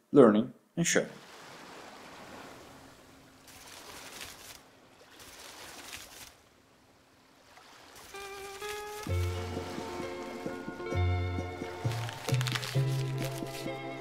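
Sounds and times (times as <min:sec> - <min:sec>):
soft rushing water: 0:00.9 - 0:14.0.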